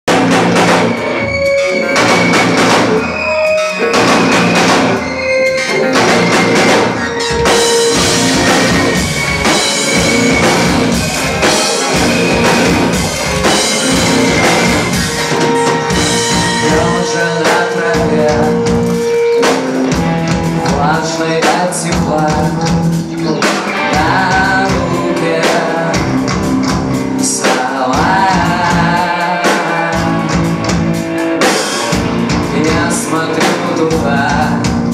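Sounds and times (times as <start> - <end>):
bass guitar: 0.0 - 34.9
drum kit: 0.0 - 34.9
electric guitar: 0.1 - 34.9
keyboard: 0.1 - 34.9.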